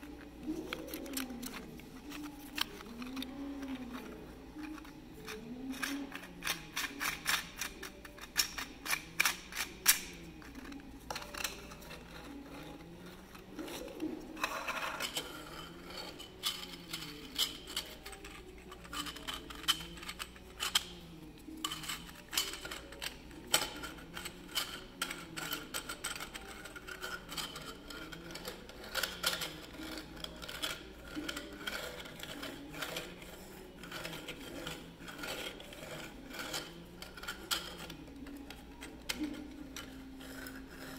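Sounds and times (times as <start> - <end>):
plastic bearing rollers clicking: 0.0 - 40.9.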